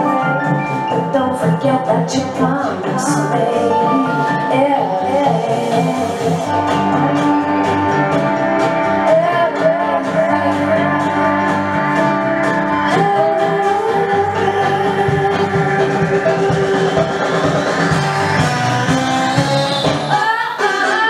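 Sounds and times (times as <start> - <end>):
song with singer over beat: 0.0 - 21.0.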